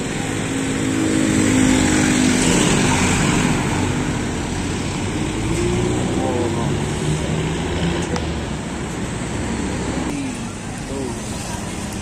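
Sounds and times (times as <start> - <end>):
vehicle engine passing: 0.0 - 10.1
road traffic hum: 0.0 - 12.0.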